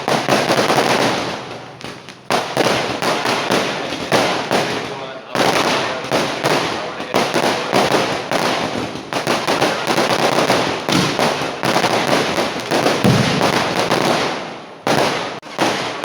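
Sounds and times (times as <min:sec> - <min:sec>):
firecracker bangs and crackles: 0:00.0 - 0:16.0.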